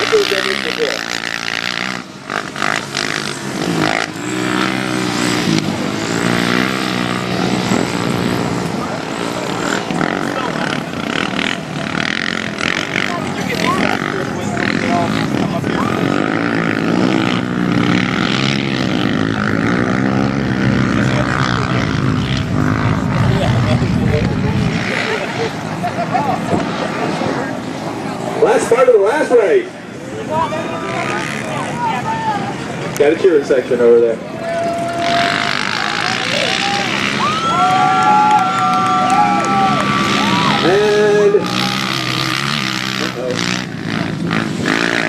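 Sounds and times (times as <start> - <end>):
quad engines revving: 0.0 - 45.0
steady noisy rush: 0.0 - 45.0.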